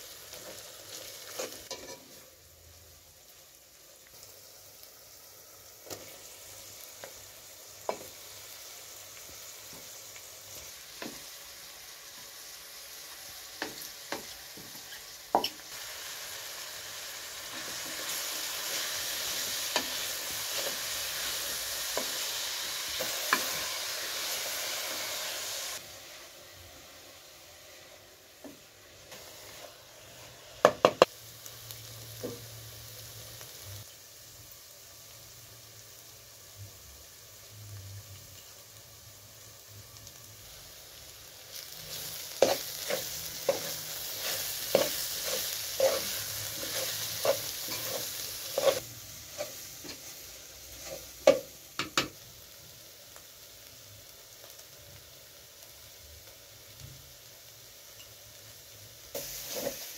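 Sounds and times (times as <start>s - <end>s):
herbs sizzling in a pot: 0.0s - 59.9s.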